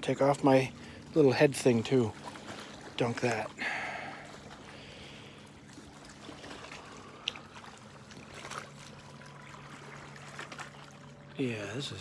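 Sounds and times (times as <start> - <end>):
low hum: 0.0 - 12.0
water lapping against rocky shore: 0.0 - 12.0.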